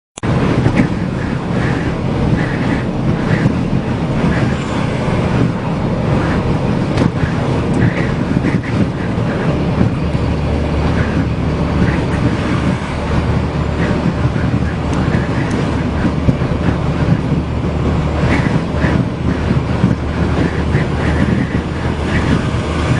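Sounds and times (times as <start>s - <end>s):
vehicle road noise: 0.2s - 22.9s.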